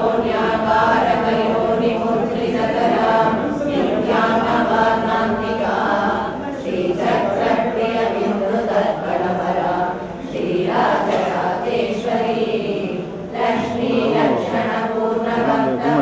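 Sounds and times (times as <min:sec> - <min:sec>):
voices chanting together: 0:00.0 - 0:16.0.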